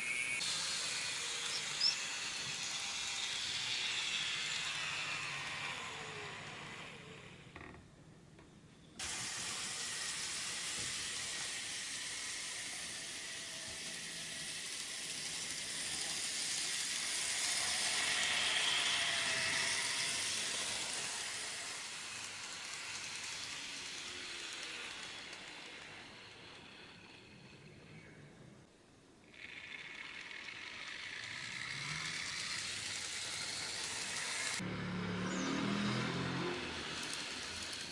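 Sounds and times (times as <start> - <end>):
model trains running: 0.0 - 7.5, 9.0 - 28.6, 29.2 - 37.9.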